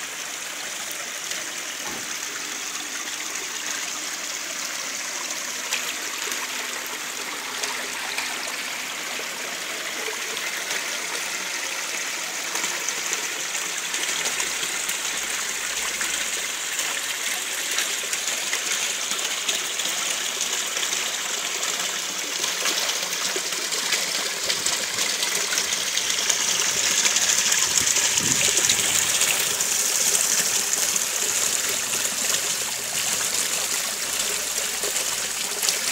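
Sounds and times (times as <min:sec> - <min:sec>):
fountain water splashing: 0:00.0 - 0:35.9.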